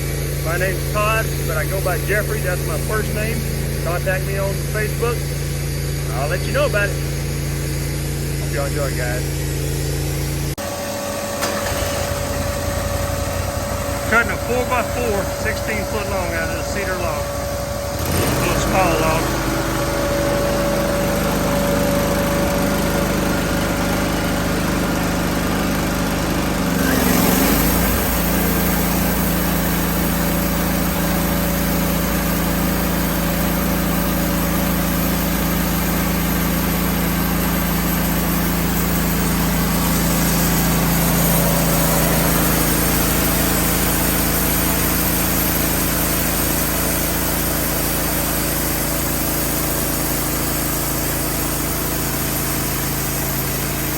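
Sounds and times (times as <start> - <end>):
band sawmill sawing log: 0.0 - 53.9.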